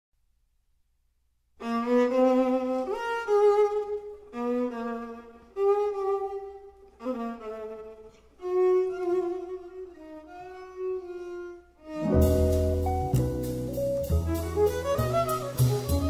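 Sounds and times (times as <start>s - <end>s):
solo jazz violin: 1.6s - 16.0s.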